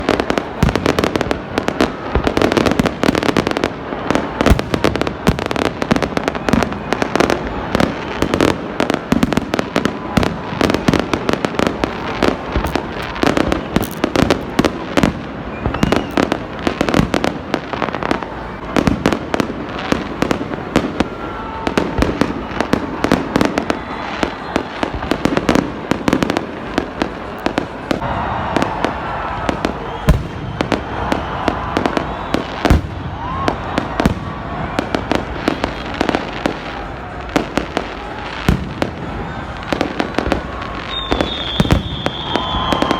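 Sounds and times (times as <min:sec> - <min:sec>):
fireworks bangs and cracks: 0:00.0 - 0:42.9.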